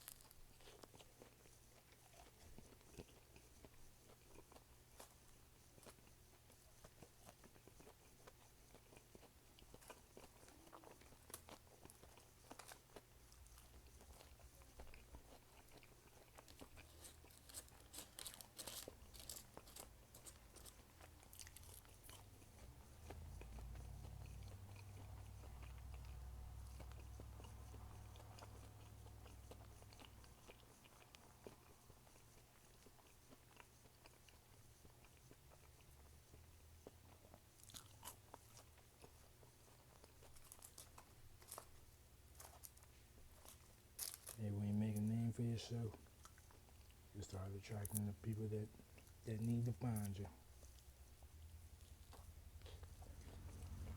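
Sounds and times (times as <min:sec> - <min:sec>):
chewing and crunching food: 0:00.0 - 0:53.9.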